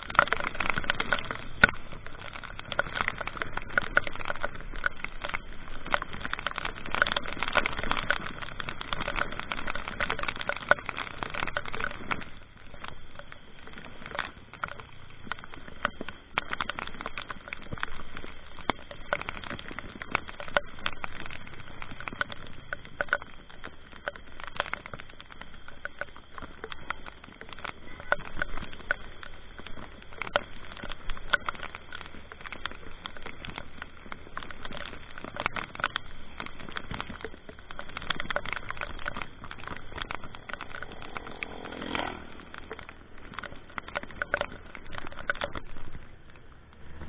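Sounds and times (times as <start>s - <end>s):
raindrops pattering on microphone: 0.0s - 47.0s
vehicle rumble: 0.0s - 47.0s.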